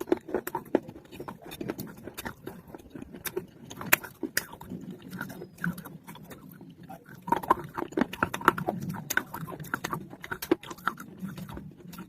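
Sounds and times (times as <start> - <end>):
crunching baked clay: 0.0 - 12.0.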